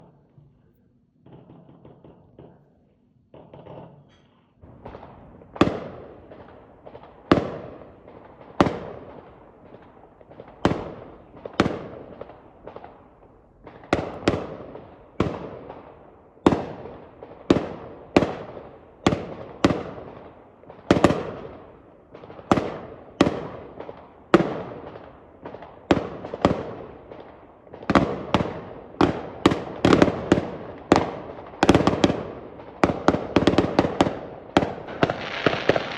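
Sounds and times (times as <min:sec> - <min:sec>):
fireworks bangs: 0:01.2 - 0:02.7, 0:04.6 - 0:35.9.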